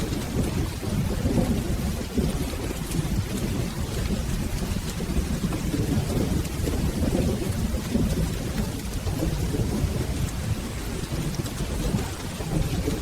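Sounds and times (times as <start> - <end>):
low rolling thunder: 0.0 - 13.0
steady rain: 0.0 - 13.0.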